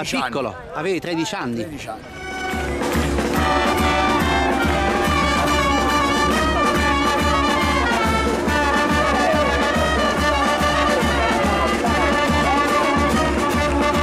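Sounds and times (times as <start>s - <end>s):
brass band playing: 2.0s - 14.0s.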